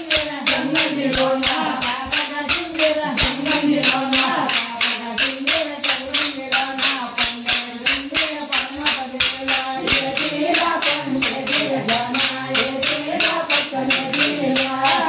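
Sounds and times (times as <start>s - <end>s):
people singing: 0.0s - 15.0s
wooden sticks clacking: 0.0s - 15.0s.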